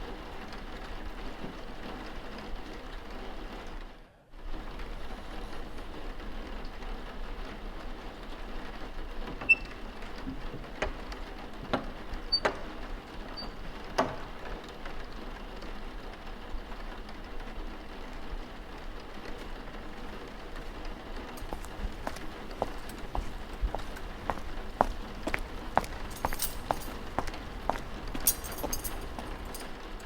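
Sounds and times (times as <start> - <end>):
steady rain: 0.0 - 26.2.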